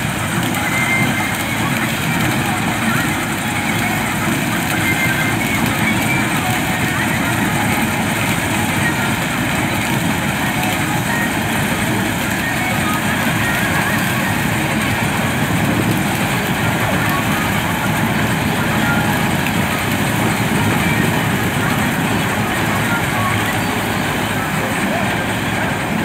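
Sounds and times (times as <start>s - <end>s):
combine harvester drone: 0.0s - 26.0s.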